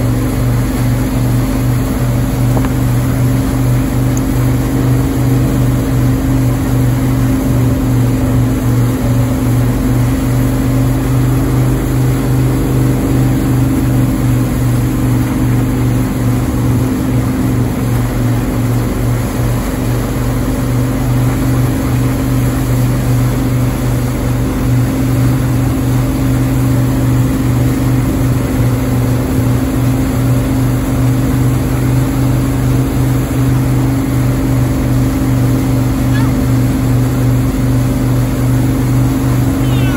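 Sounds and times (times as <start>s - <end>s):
boat engine droning: 0.0s - 39.9s
water churning: 0.0s - 39.9s.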